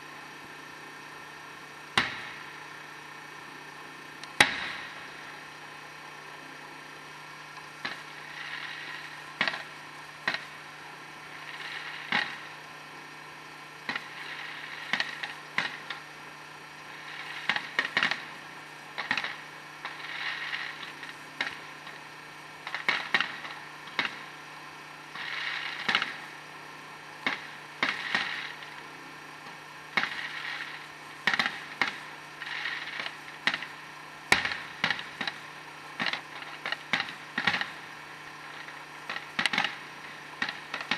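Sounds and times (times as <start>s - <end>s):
fireworks cracking and popping: 0.0s - 40.9s
fireworks hissing: 0.0s - 40.9s.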